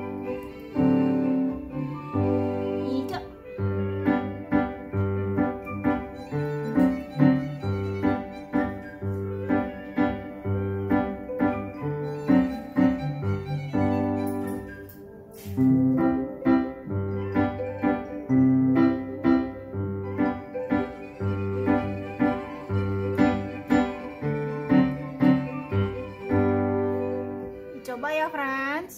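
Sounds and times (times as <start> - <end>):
electronic keyboard piano tune: 0.0 - 28.8.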